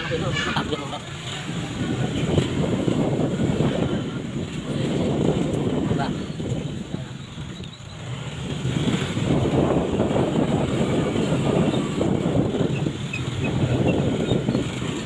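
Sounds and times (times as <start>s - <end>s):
motor vehicle engine and road noise: 0.0s - 15.0s.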